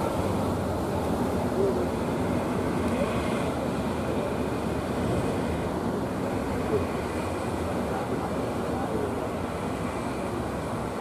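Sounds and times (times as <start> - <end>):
boat engines running: 0.0 - 11.0
surf rushing: 0.0 - 11.0.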